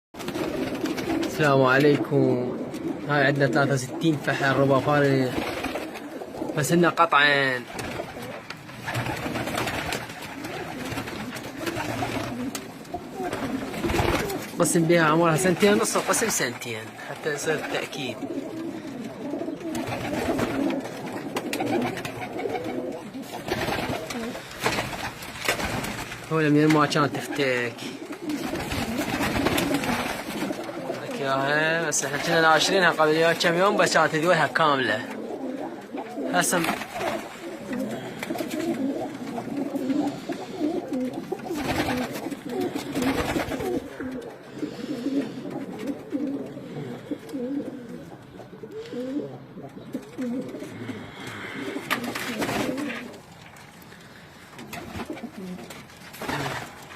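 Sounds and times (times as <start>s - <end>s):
pigeons cooing: 0.2s - 56.9s.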